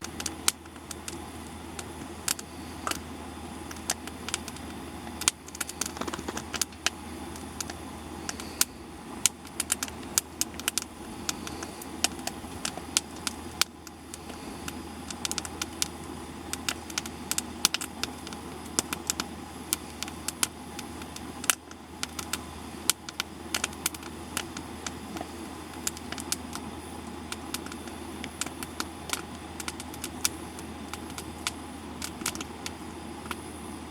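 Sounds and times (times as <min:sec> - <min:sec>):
campfire crackling and popping: 0:00.0 - 0:33.9
flames hissing: 0:00.0 - 0:33.9.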